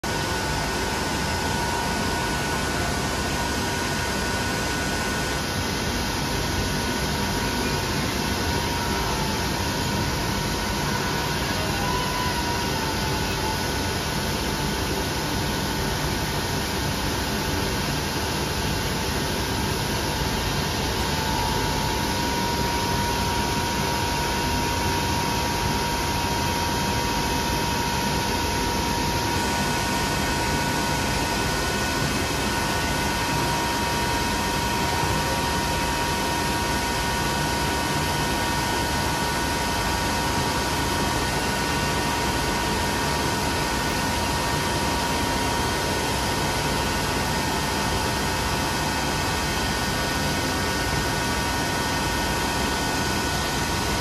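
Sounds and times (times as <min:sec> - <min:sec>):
machine shop hiss and hum: 0:00.0 - 0:54.0.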